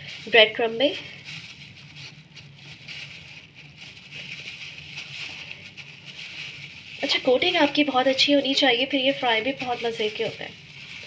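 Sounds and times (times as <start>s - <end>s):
background hum and hiss: 0.0s - 11.0s
breadcrumbs rustling: 0.0s - 11.0s.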